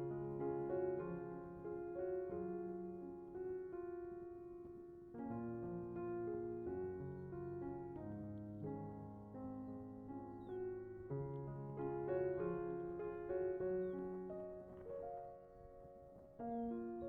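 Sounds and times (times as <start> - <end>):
soft slow piano music: 0.0 - 17.0.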